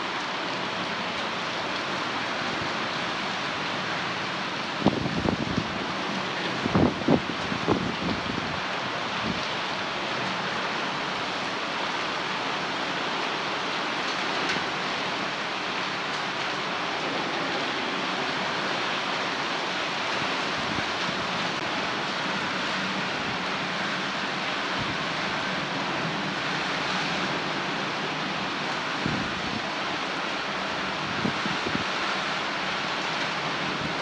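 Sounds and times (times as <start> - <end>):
heavy rain: 0.0 - 34.0.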